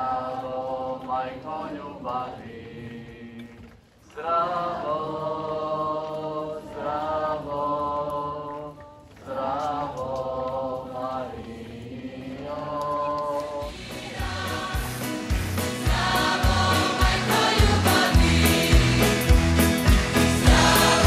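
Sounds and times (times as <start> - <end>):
group of voices singing: 0.0 - 21.0.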